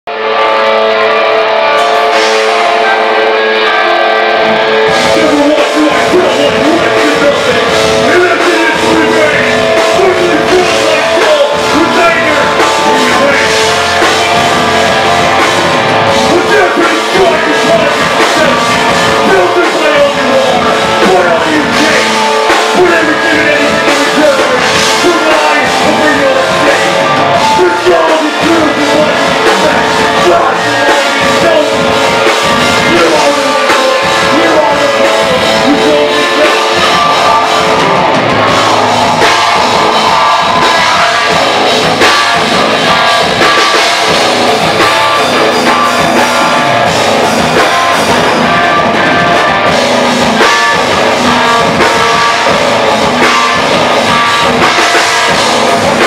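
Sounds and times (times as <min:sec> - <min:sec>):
live rock band playing: 0:00.1 - 0:56.0
person singing: 0:00.1 - 0:56.0.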